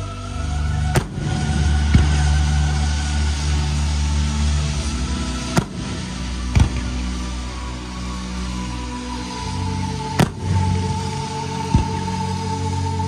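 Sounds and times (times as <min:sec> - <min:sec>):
music with deep bass drone: 0:00.0 - 0:13.0.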